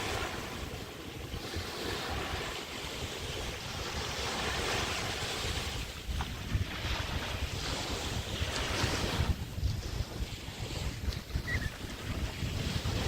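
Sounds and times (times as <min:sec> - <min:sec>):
waves breaking on sandy beach: 0:00.0 - 0:13.0
wind buffeting microphone: 0:00.0 - 0:13.0.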